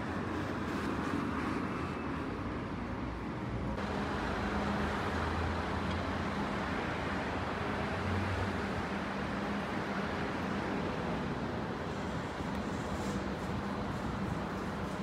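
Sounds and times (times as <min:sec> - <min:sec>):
road noise from cars: 0:00.0 - 0:15.0.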